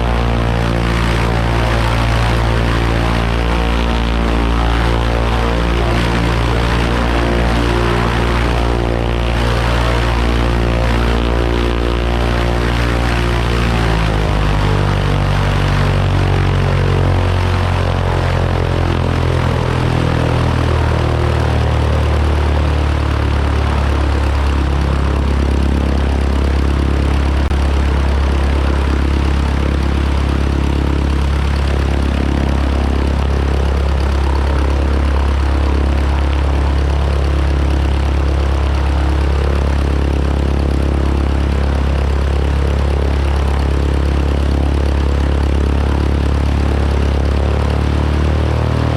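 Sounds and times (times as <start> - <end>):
light aircraft engine and propeller: 0.0 - 48.9.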